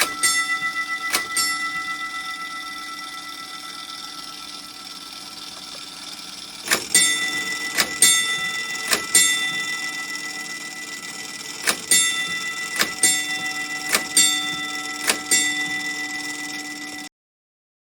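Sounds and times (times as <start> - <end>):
fire alarm gong strikes: 0.0 - 17.1.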